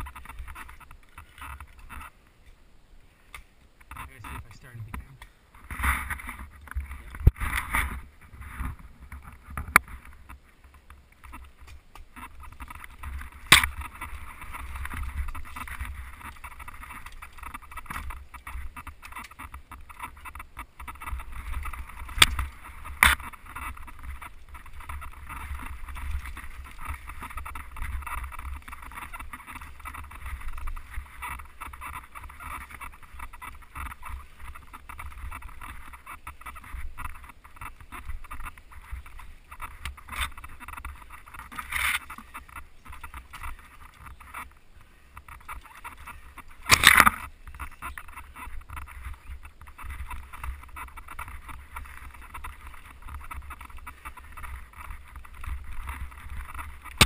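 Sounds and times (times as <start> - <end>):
bike tyres rushing on dirt: 0.0 - 2.4, 5.4 - 57.0.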